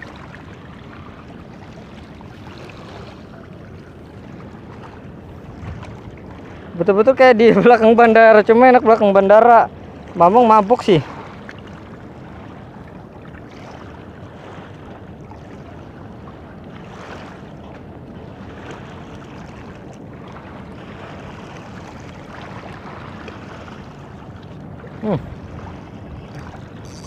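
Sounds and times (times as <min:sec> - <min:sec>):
water: 0:00.0 - 0:27.0
wind: 0:00.0 - 0:27.0.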